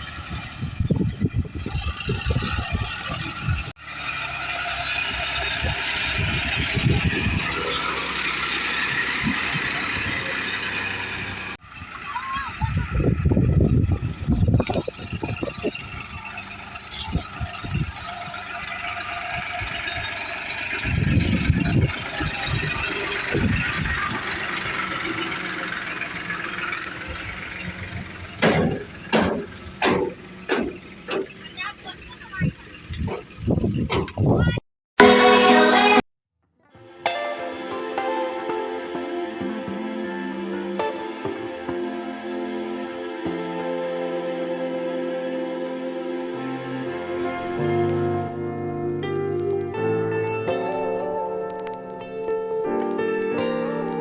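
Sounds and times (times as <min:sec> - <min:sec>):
tractor diesel engine running: 0:00.0 - 0:36.0, 0:46.4 - 0:54.0.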